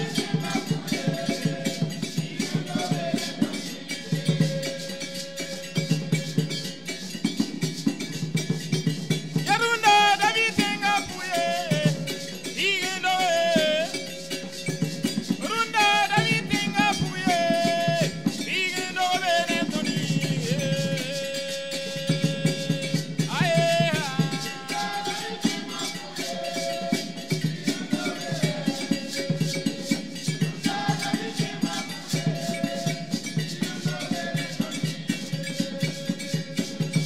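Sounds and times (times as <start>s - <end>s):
drums: 0.0s - 37.0s
group singing: 0.0s - 37.0s.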